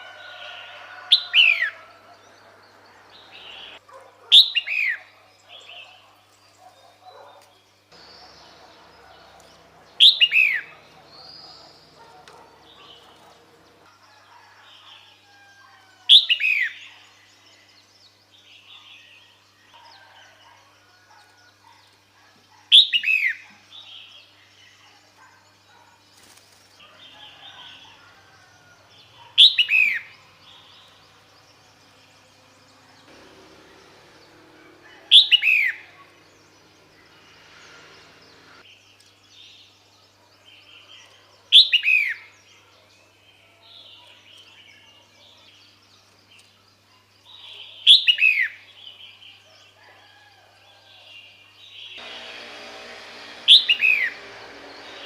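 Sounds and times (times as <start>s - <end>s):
faint bird chirping: 0.2s - 52.0s.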